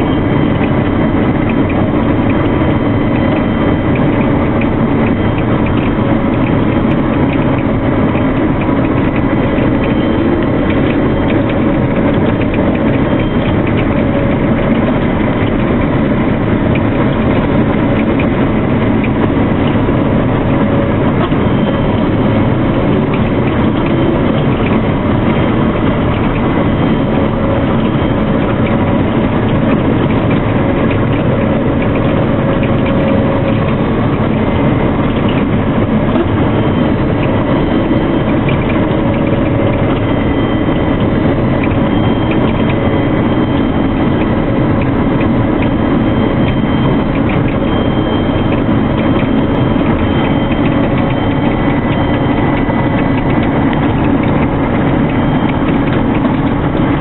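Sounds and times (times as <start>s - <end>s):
combine harvester machinery clatter: 0.0s - 57.0s
faint steady tones: 0.0s - 57.0s.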